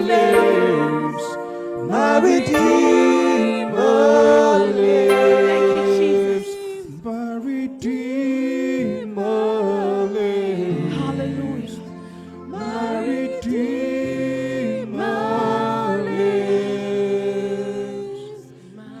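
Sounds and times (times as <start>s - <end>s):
worship singing: 0.0s - 19.0s.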